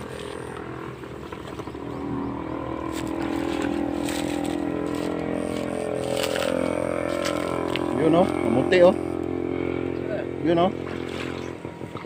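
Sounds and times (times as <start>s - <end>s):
electrofishing rig humming: 0.0s - 12.0s.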